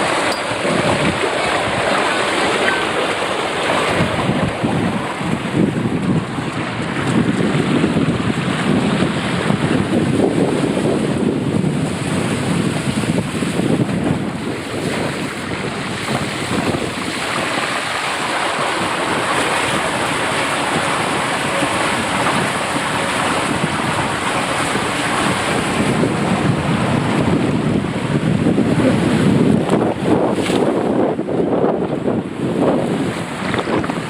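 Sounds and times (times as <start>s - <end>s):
water rushing down waterslide: 0.0s - 34.0s
wind on microphone: 0.0s - 34.0s.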